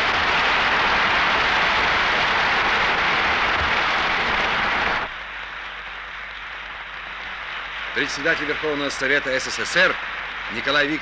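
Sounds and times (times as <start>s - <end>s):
large audience applauding: 0.0s - 11.0s.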